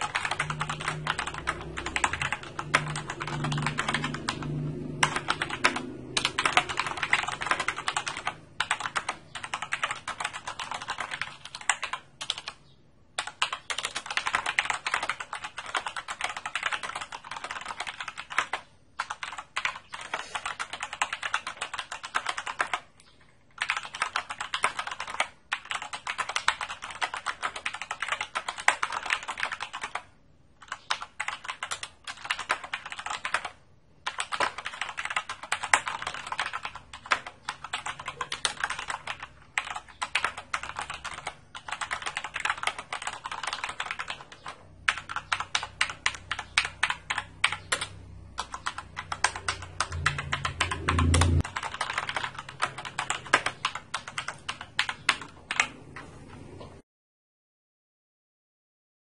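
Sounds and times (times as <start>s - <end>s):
typing on mechanical keyboard: 0.0s - 12.6s, 13.2s - 56.1s.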